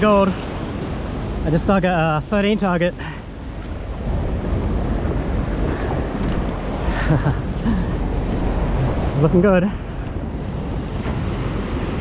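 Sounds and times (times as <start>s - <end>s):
surf washing and foaming: 0.0s - 12.0s
wind rumbling on microphone: 0.0s - 12.0s.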